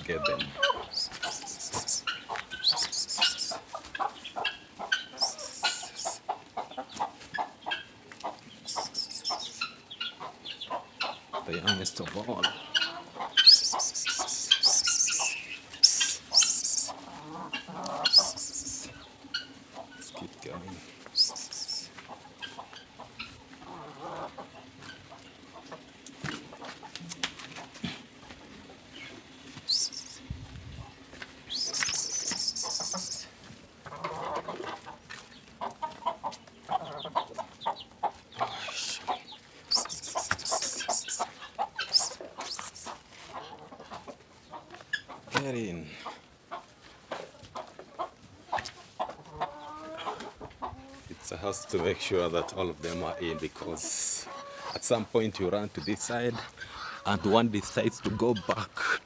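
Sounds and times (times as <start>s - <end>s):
rustles and footsteps: 0.0s - 58.8s
chicks peeping: 0.0s - 59.0s.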